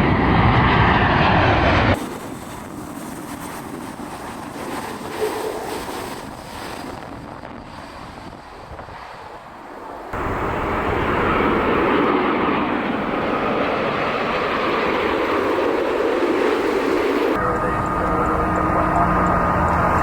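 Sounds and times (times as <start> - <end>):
jet engine noise: 0.0 - 20.0
loud jet engine roar: 0.0 - 20.0.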